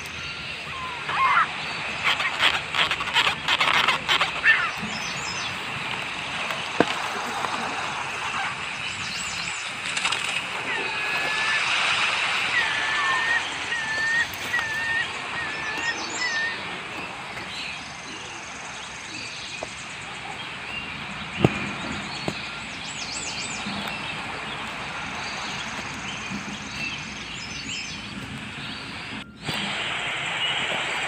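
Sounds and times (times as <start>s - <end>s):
birds chirping: 0.0s - 31.0s
outdoor background noise: 0.0s - 31.0s.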